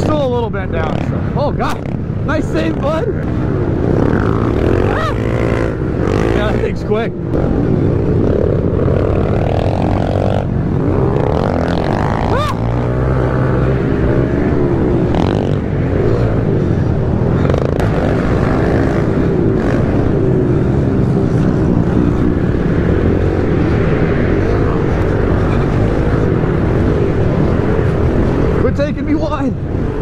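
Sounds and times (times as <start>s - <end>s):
passing bike revving: 0.0s - 30.0s
pit bike engines revving: 0.0s - 30.0s.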